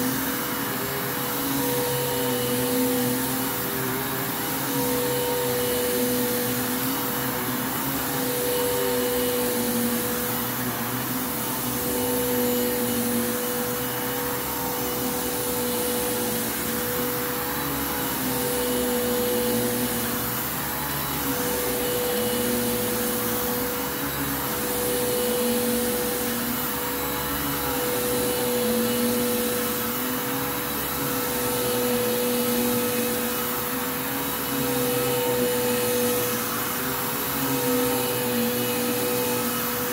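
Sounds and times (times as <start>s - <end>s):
vacuum cleaner running on rug: 0.0s - 39.9s.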